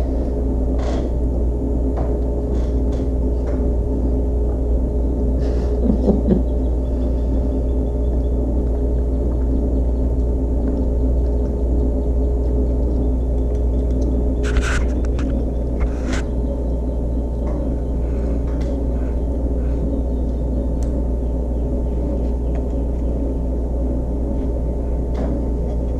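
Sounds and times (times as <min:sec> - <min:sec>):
gong-like tones droning: 0:00.0 - 0:14.4, 0:15.0 - 0:25.7.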